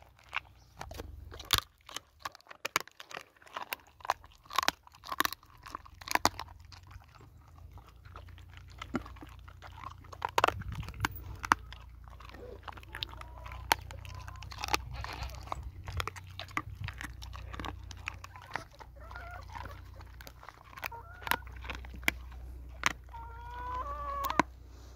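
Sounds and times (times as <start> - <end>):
dog gnawing bone: 0.0 - 24.8.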